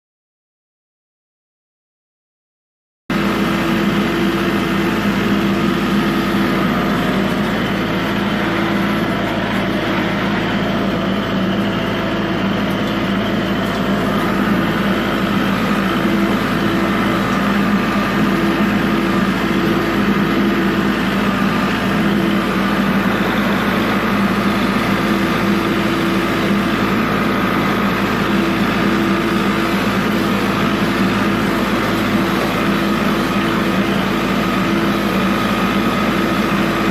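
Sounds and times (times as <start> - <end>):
tractor engine running: 3.1 - 36.9.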